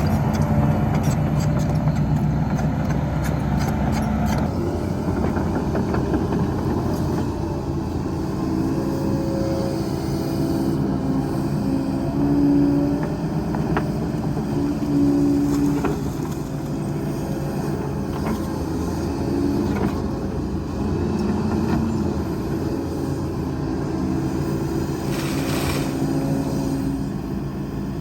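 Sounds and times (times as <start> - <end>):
diesel machinery rumbling: 0.0 - 28.0.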